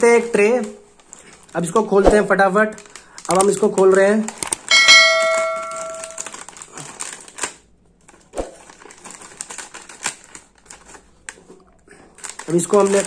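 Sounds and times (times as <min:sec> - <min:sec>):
plastic snack packet crinkling: 0:00.0 - 0:13.0.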